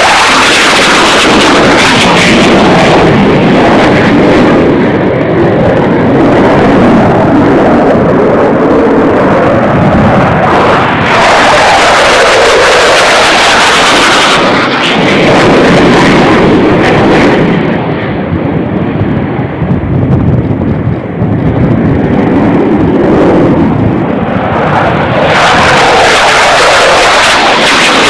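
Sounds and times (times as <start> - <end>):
military jet roaring: 0.0 - 28.0.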